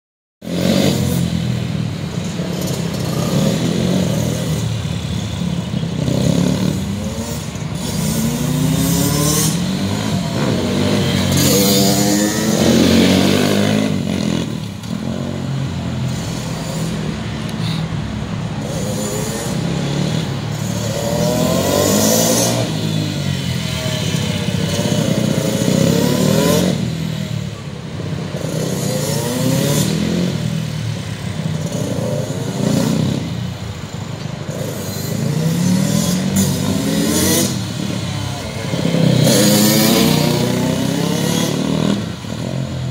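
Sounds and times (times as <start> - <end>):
motorcycle engines revving: 0.4 - 42.9.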